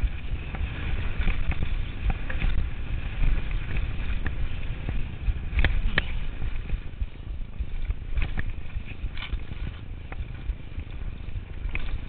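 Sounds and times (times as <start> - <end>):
bike clattering over trail: 0.0 - 12.0
wind buffeting microphone: 0.0 - 12.0.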